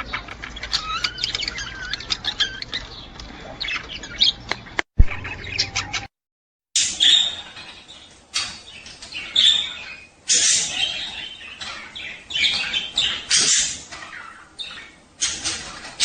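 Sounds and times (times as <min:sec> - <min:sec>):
budgerigars chattering: 0:00.0 - 0:04.6, 0:05.2 - 0:06.1, 0:06.8 - 0:16.0.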